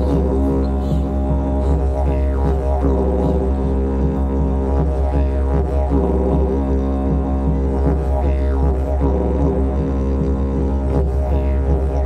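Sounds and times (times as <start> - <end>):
didgeridoo drone: 0.0 - 12.0.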